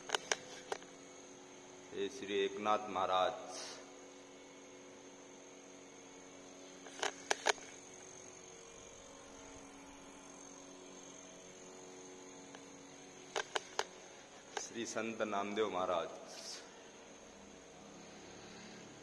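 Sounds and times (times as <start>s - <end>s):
electrical hum: 0.0s - 19.0s
thin high whine: 0.0s - 19.0s.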